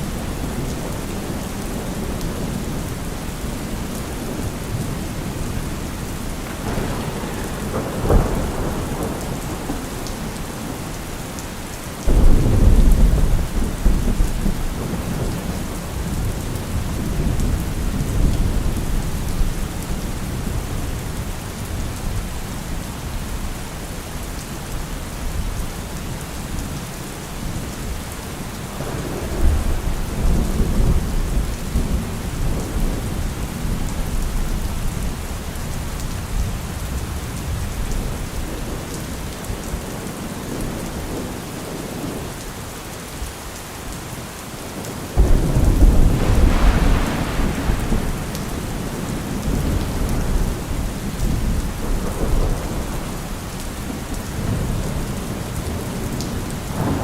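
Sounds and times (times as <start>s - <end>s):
thunder clap and rumble: 0.0s - 23.4s, 27.4s - 42.4s, 44.8s - 57.0s
steady rain falling: 0.0s - 57.0s.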